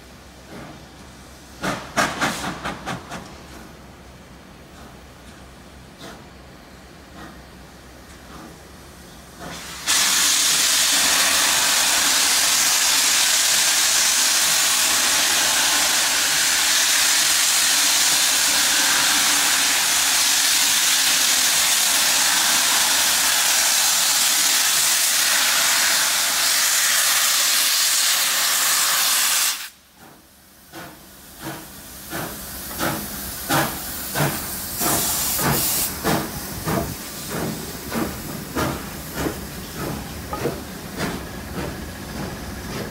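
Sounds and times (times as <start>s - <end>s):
steam hissing from locomotive: 0.0s - 3.8s, 4.6s - 42.9s
steam locomotive exhaust chuffing: 4.6s - 42.9s.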